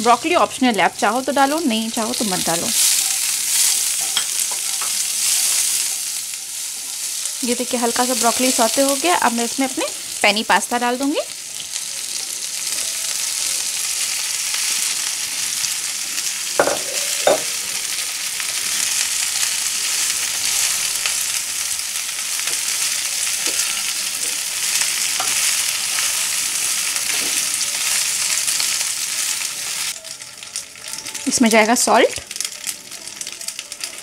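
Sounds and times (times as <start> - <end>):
pasta sizzling in a frying pan: 0.0 - 34.0.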